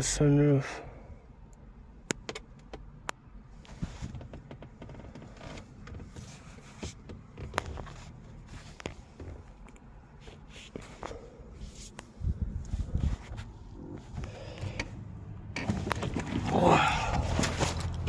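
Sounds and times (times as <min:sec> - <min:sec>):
faint rustling: 0:03.5 - 0:18.0.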